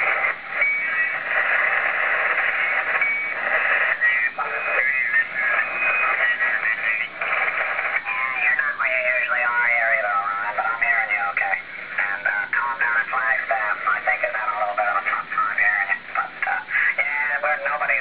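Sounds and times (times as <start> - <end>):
garbled warbling radio voices: 0.0 - 18.0
radio band hiss: 0.0 - 18.0.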